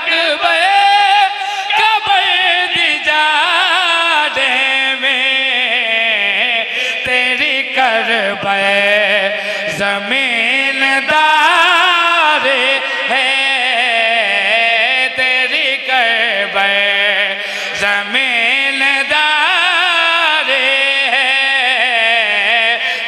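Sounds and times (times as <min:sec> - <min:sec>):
man singing a lament: 0:00.0 - 0:23.0.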